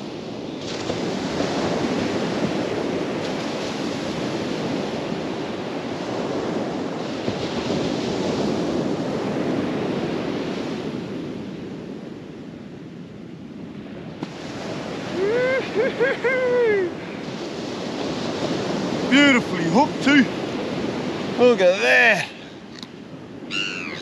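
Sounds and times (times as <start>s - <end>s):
ocean surf washing onto beach: 0.0s - 24.0s
wind buffeting microphone: 0.0s - 24.0s.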